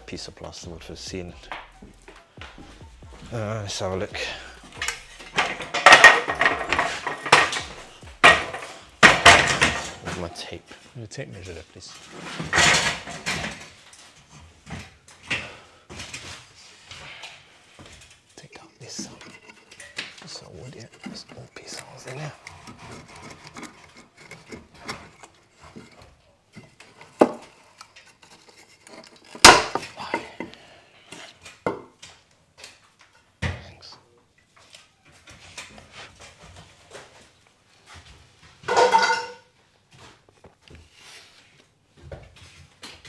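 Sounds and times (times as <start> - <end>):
timber and tools clattering: 0.0 - 33.7, 34.3 - 40.9.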